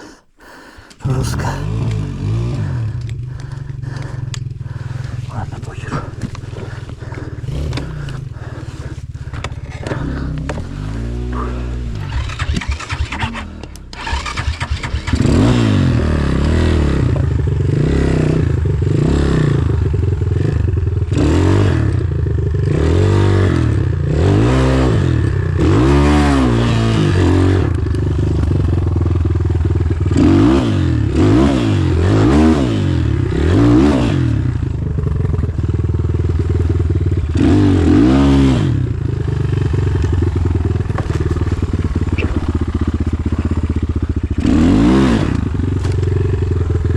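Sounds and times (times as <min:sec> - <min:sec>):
motorcycle engine revving: 0:01.6 - 0:46.9.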